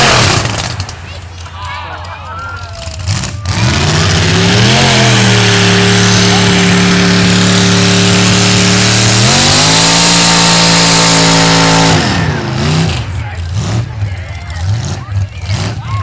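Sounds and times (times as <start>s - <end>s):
truck engine at high revs: 0.0s - 2.1s, 2.7s - 16.0s.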